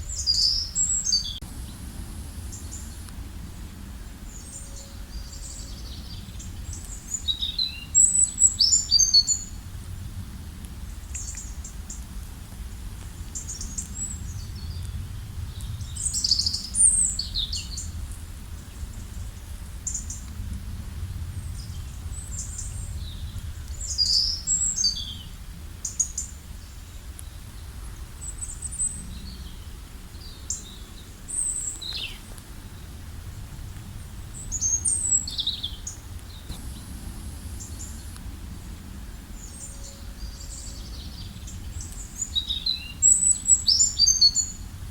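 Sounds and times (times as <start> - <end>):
low background rumble: 0.0 - 44.9
songbirds chirping and trilling: 0.0 - 44.9.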